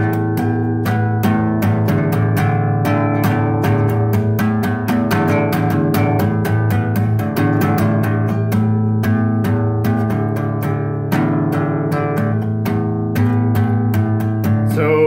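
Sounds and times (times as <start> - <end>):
plucked notes: 0.0 - 15.0.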